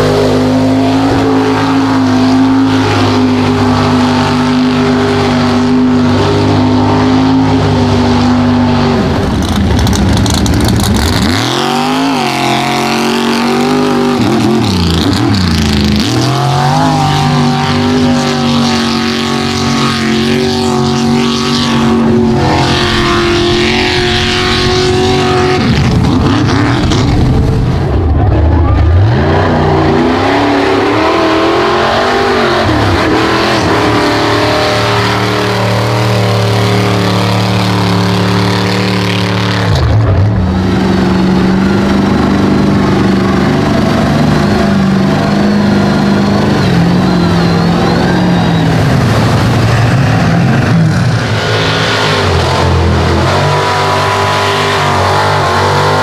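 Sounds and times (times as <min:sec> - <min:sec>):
truck engines revving: 0:00.0 - 0:56.0.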